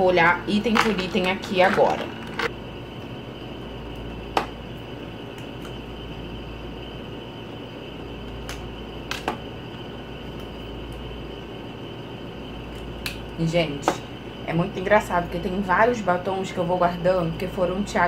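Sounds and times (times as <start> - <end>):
room hiss: 2.1 - 18.0.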